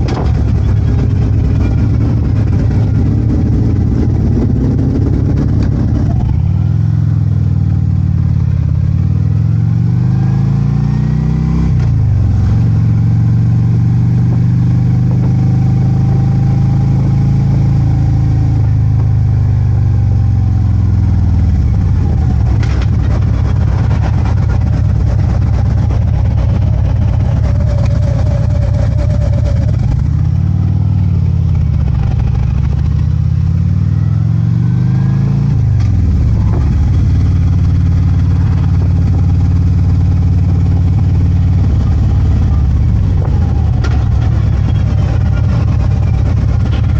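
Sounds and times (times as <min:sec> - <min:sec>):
motorcycle engine accelerating: 0:00.0 - 0:46.9
road and wind noise: 0:00.0 - 0:46.9.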